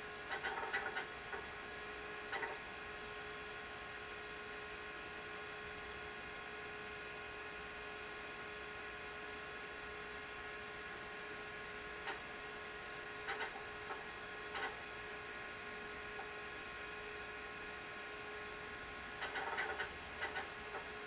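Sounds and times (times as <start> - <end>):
computer fan and disk hum: 0.0 - 21.0.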